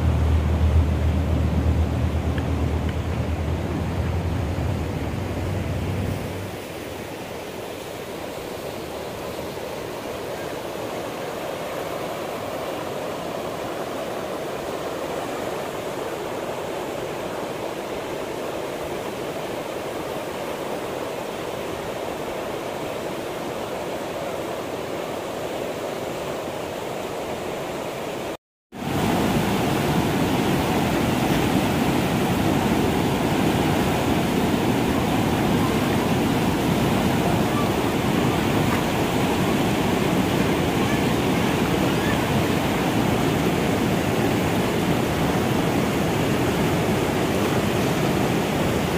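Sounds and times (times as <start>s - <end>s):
river rapids rushing: 0.0s - 48.9s.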